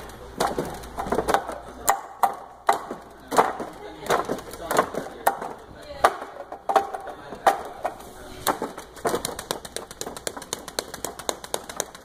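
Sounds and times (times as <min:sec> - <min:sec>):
hands striking wooden dummy: 0:00.4 - 0:12.0.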